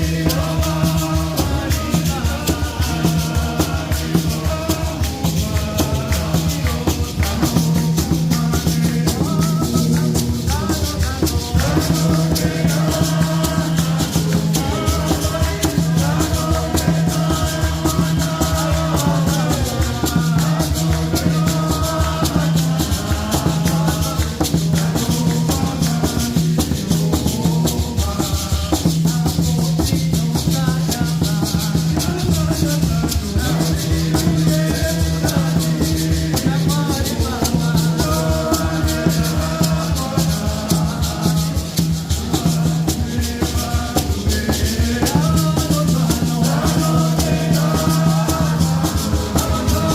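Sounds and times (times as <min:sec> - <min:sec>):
music with fast rattle rhythm: 0:00.0 - 0:49.9.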